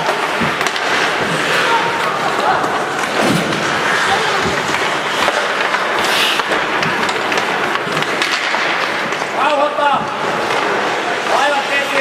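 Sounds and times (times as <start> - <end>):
crowd and arena noise: 0.0 - 12.0
hockey sticks and puck clicking: 0.0 - 12.0
skates scraping ice: 0.0 - 12.0.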